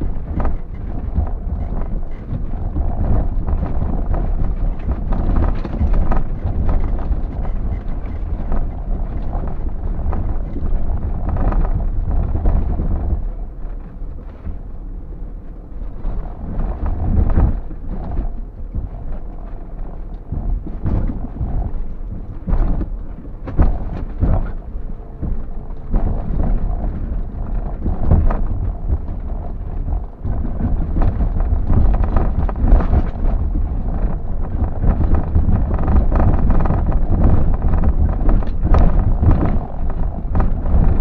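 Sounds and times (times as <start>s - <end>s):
engine and tyres rumbling: 0.0s - 41.0s.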